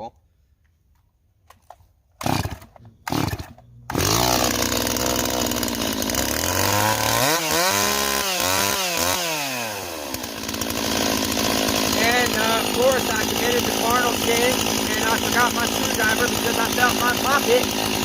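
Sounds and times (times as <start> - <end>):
chainsaw engine revving and idling: 2.2 - 18.0.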